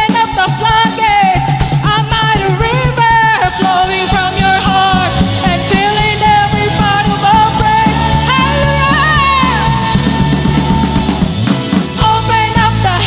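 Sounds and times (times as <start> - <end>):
drums: 0.0 - 13.0
live rock band playing: 0.0 - 13.0.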